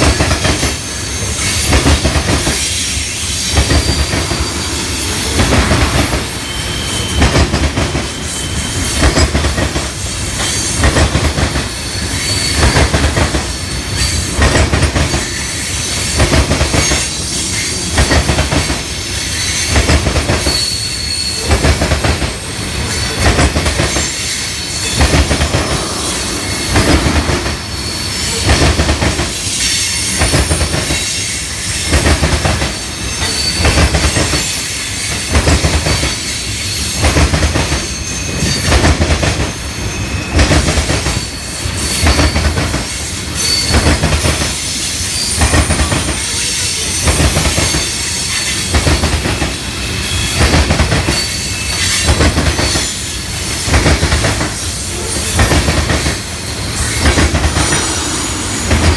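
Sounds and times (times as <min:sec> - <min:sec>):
train wheels clattering over rail joints: 0:00.0 - 0:04.5, 0:05.3 - 0:39.6, 0:40.3 - 0:58.9
wheels squealing on rails: 0:00.0 - 0:58.9.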